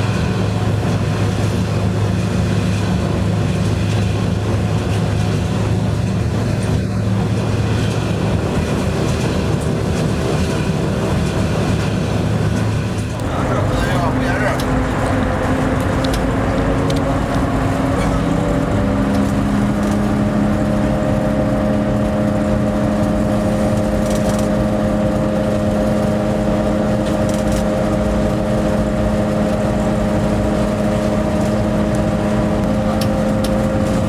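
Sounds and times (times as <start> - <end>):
locomotive rumble with humming notes: 0.0 - 34.0.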